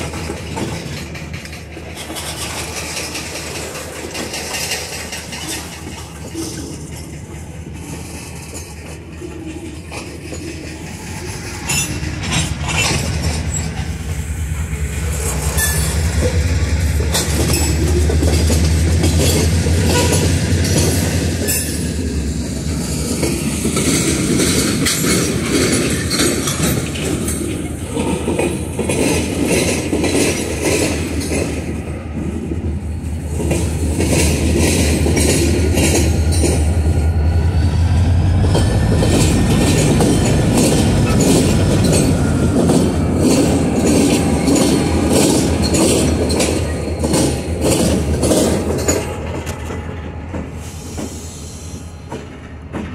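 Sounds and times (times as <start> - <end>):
diesel locomotive hum: 0.0 - 52.9
freight train rumble: 0.0 - 52.9
train wheels clicking over rail joints: 0.0 - 52.9.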